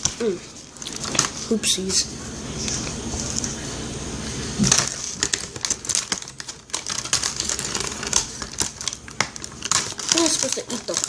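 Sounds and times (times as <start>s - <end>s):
plastic packaging crinkling: 0.0s - 1.9s, 2.5s - 3.8s, 4.4s - 11.0s.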